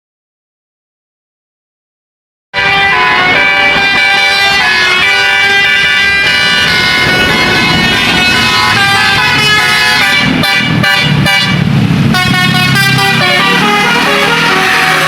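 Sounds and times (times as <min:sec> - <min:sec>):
bus engine running: 0:02.6 - 0:15.0
bus multi-tone horn tune: 0:02.6 - 0:15.0.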